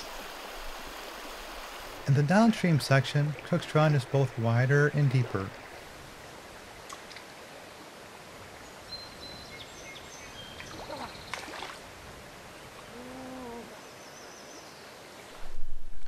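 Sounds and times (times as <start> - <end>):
stream flowing: 0.0 - 15.7.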